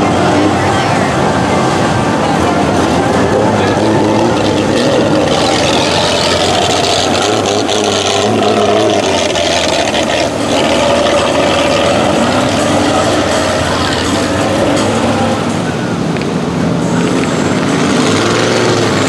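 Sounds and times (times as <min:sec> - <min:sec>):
car engine under throttle: 0:00.0 - 0:19.0
tyres splashing through water: 0:01.2 - 0:16.5.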